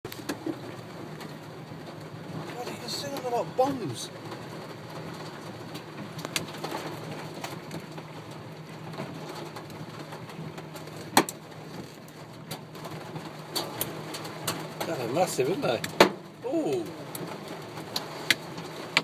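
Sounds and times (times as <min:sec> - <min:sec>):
hailstones hitting metal roof: 0:01.2 - 0:19.0.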